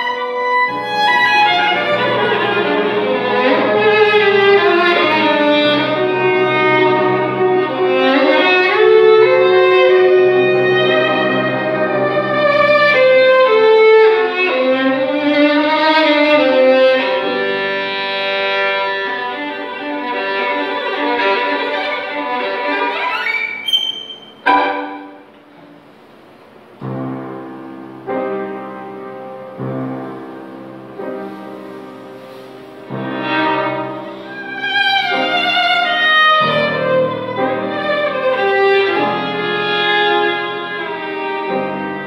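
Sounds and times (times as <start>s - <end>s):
solo violin melody: 0.0s - 25.6s, 31.0s - 42.0s
lower accompaniment: 0.0s - 42.0s.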